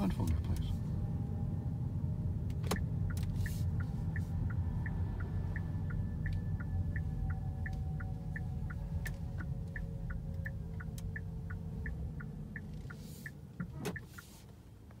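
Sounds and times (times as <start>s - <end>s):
road and tyre rumble: 0.0s - 15.0s
turn signal ticking: 0.0s - 15.0s.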